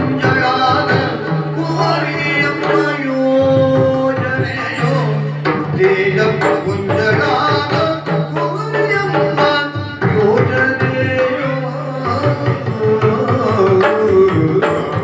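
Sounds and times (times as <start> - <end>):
rapid drum strokes: 0.0 - 15.0.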